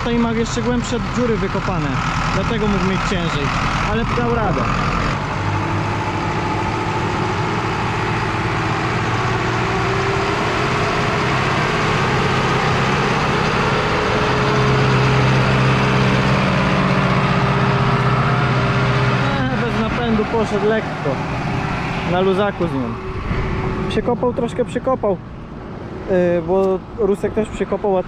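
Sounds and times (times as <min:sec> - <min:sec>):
tractor diesel engine working: 0:00.0 - 0:28.0.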